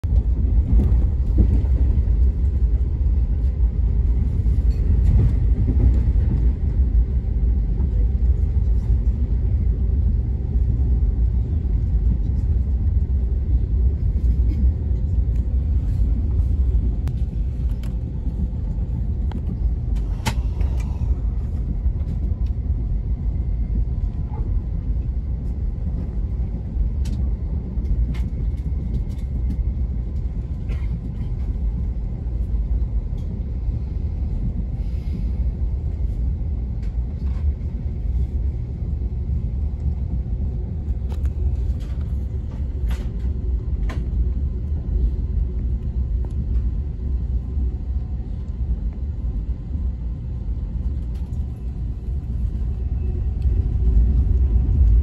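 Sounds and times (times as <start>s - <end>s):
train rumble from aboard: 0.0s - 55.0s.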